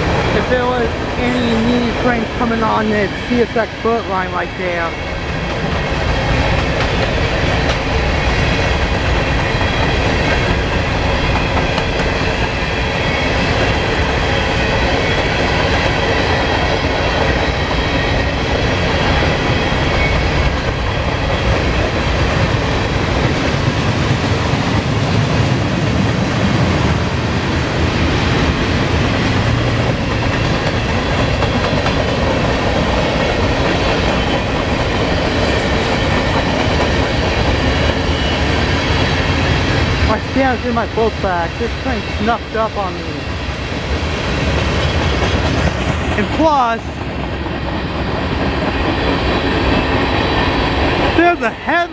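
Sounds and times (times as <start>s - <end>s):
freight train wheels clattering on rails: 0.0s - 42.5s, 43.2s - 51.8s.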